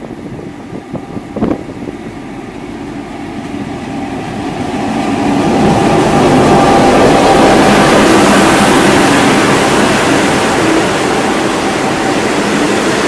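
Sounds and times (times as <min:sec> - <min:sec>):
locomotive engine: 0:00.0 - 0:13.0
train wheels on rails: 0:00.0 - 0:13.0.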